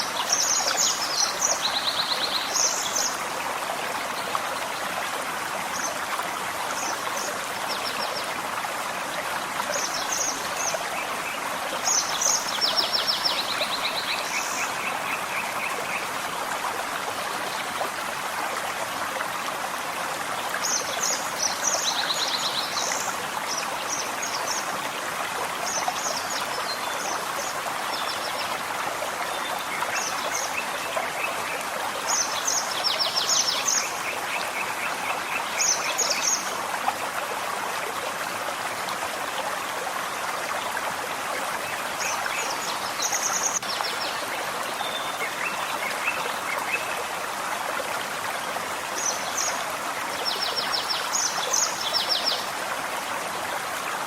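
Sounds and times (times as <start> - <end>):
forest stream running: 0.0 - 54.0.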